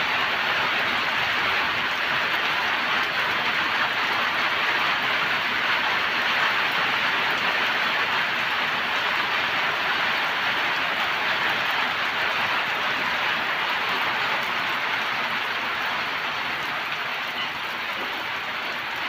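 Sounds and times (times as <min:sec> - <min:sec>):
hail and rain falling: 0:00.0 - 0:19.0.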